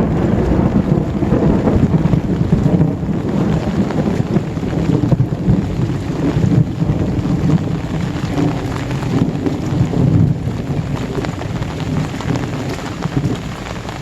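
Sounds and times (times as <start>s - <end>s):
heavy rain pouring: 0.0s - 14.0s
sharp raindrop hits: 0.0s - 14.0s.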